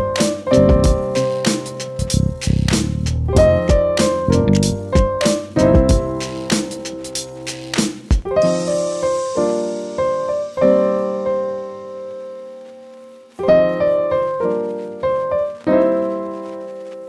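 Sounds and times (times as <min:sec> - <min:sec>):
piano chords ringing: 0:00.0 - 0:02.6, 0:03.3 - 0:07.5, 0:08.3 - 0:17.0.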